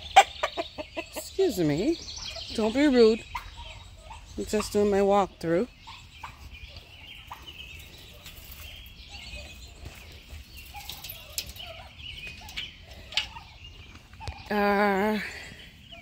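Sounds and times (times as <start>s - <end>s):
young turkeys chirping: 0.0s - 16.0s.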